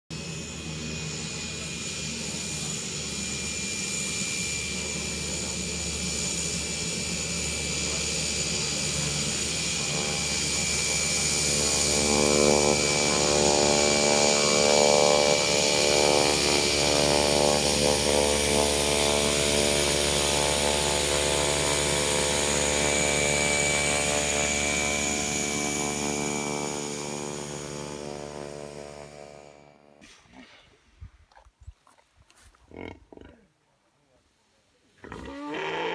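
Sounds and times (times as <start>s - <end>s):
light aircraft engine and propeller: 0.1s - 30.2s.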